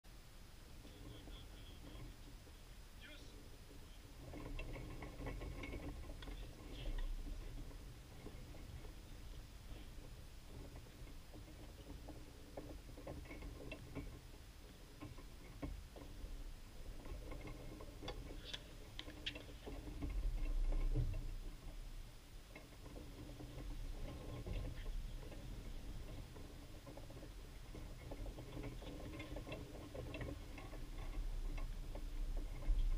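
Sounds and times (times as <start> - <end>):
wind rumble on microphone: 4.1 - 32.9.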